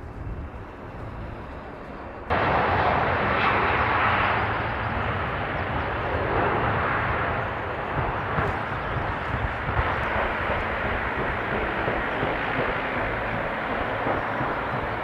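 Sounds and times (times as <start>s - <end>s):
airplane engine roar: 0.0s - 15.0s.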